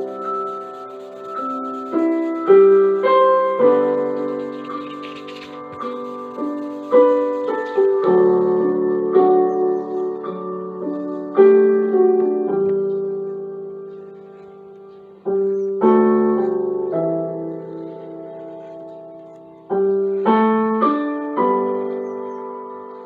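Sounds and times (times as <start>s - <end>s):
slow gentle piano: 0.0s - 23.0s.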